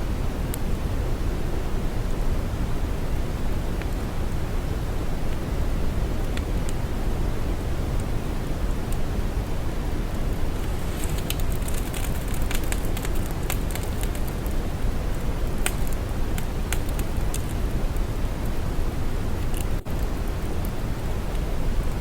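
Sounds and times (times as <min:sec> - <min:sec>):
deep brown noise hiss: 0:00.0 - 0:22.0
static crackles: 0:00.0 - 0:22.0.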